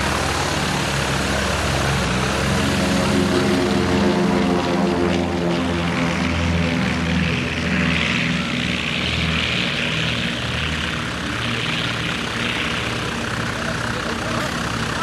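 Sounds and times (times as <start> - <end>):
propeller airplane engine droning: 0.0 - 15.0.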